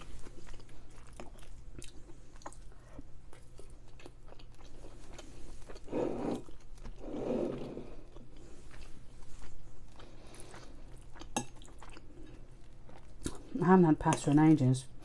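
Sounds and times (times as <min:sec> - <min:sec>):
close chewing of pasta: 0:00.0 - 0:14.4.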